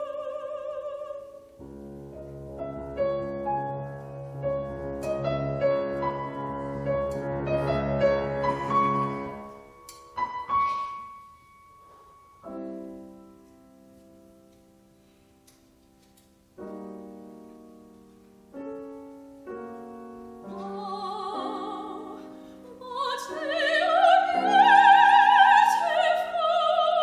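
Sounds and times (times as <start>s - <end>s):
grand piano playing: 0.0s - 27.0s.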